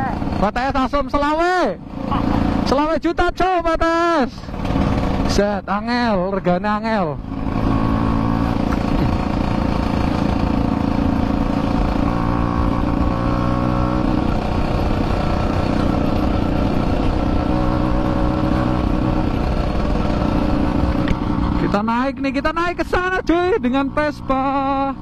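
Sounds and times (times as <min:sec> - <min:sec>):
two-stroke motorbike engine: 0:00.0 - 0:25.0.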